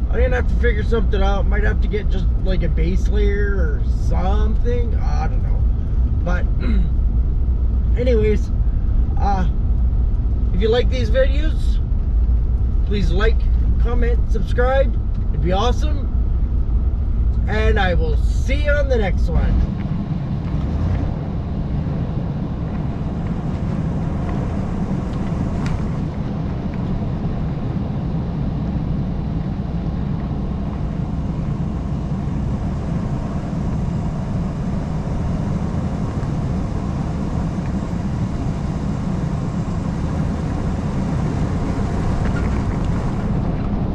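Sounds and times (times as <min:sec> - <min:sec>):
road and engine rumble: 0:00.0 - 0:43.9.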